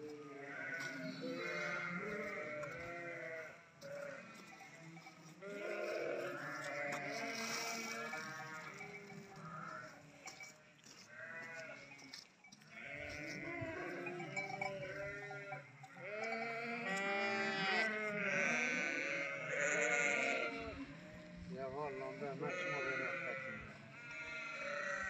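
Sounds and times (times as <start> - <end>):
sheep bleating: 0.0 - 10.0, 11.0 - 25.0.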